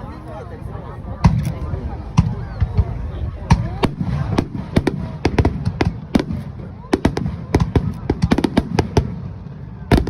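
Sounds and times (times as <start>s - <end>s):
fireworks bangs: 1.2s - 10.0s.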